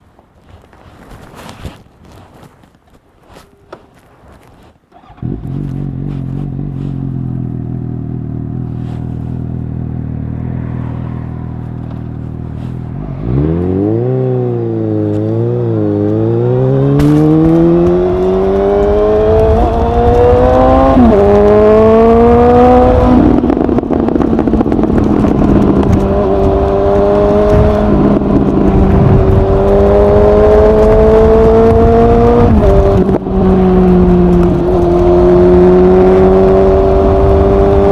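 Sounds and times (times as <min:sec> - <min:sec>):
motorcycle engine idling and revving: 0:04.4 - 0:37.9.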